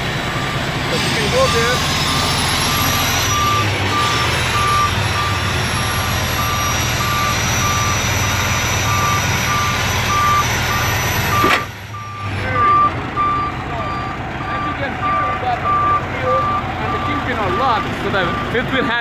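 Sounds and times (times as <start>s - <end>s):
truck engine idling: 0.0s - 19.0s
truck reverse alarm beeping: 0.0s - 19.0s.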